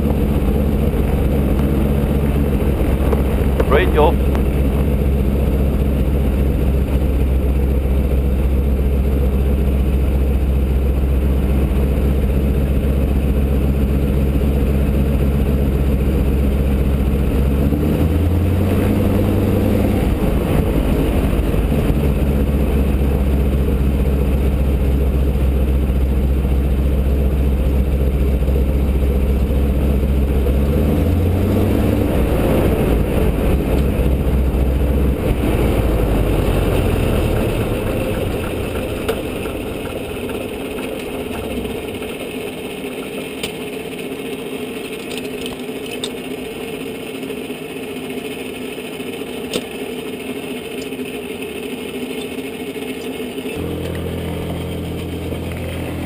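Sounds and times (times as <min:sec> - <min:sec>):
biplane radial engine running: 0:00.0 - 0:56.0.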